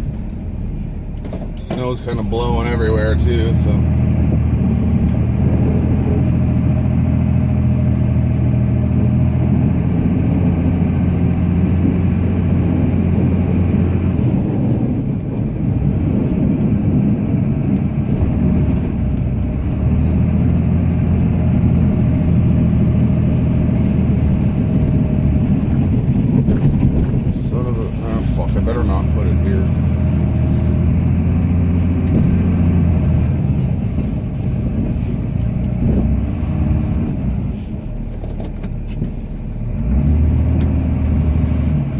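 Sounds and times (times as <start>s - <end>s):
diesel truck engine under load: 0.0s - 41.9s.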